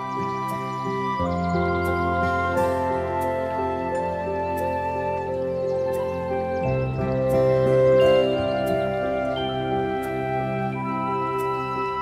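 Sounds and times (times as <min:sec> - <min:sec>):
calm music of held chords: 0:00.0 - 0:12.0.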